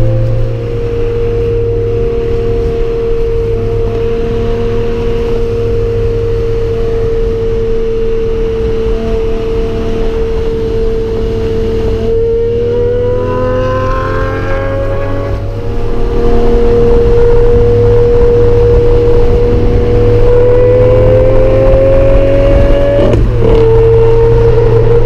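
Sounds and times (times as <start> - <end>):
sports car engine revving: 0.0 - 25.0.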